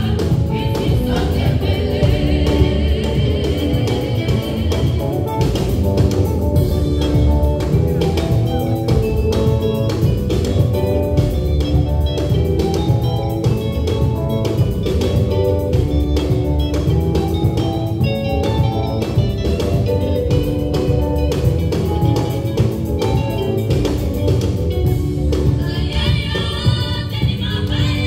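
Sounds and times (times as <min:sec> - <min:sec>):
drum kit: 0:00.0 - 0:28.0
electric guitar: 0:00.0 - 0:28.0.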